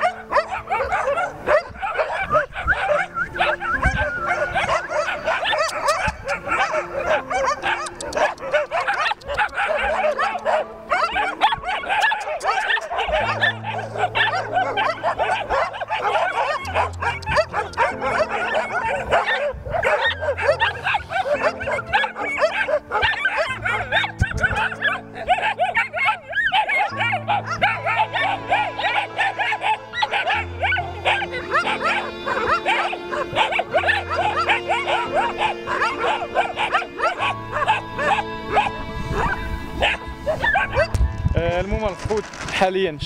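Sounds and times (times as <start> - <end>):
dogs barking and yelping: 0.0 - 41.2
background music with low notes: 0.0 - 43.0.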